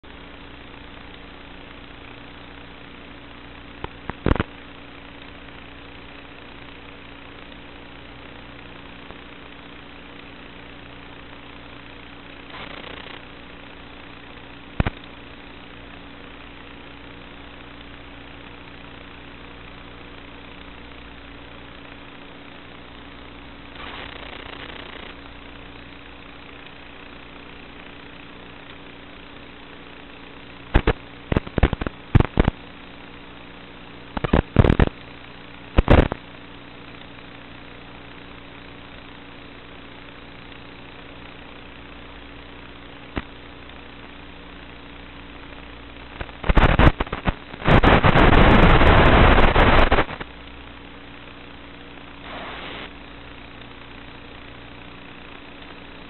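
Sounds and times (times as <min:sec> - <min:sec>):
steady hum: 0:00.0 - 0:56.0
sharp crackles and pops: 0:00.1 - 0:56.0.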